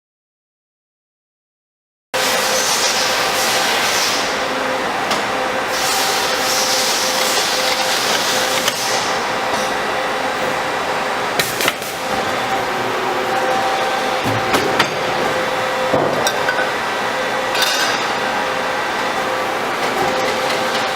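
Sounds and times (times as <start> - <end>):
machine mechanical hum: 2.2 - 20.9.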